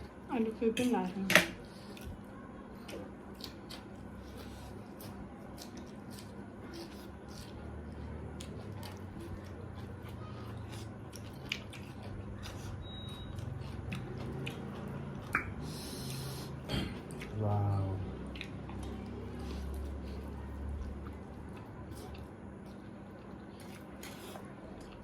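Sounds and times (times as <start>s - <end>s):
close chewing: 1.9s - 25.0s.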